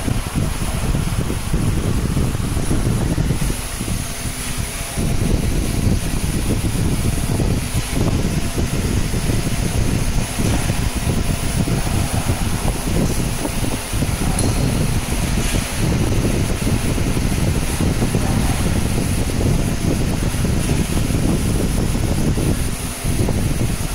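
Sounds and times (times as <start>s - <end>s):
laser machine low rumbling hum: 0.0s - 23.9s.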